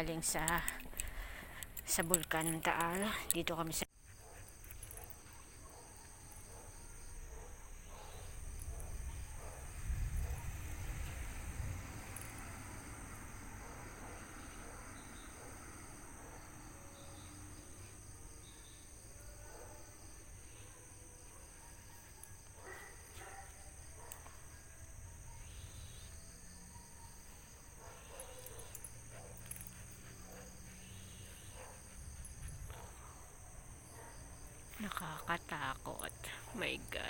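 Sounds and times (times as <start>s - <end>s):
crickets and insects trilling: 0.0s - 37.0s.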